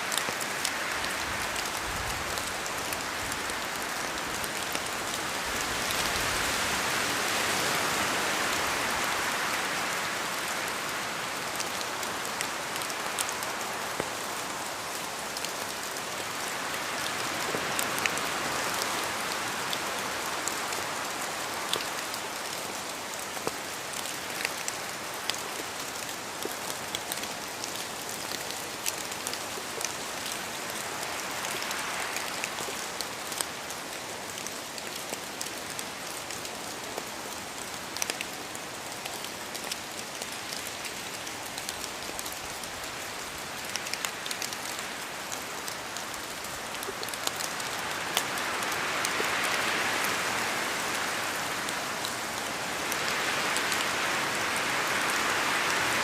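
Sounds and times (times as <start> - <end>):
steady rain in forest: 0.0 - 56.0
wind through trees: 0.0 - 56.0.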